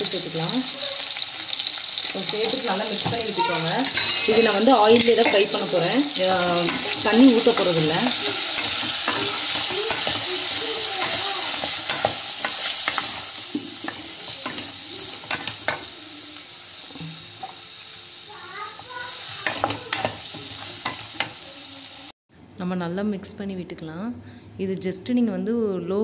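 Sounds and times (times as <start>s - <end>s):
banana pieces sizzling in oil: 0.0s - 22.2s.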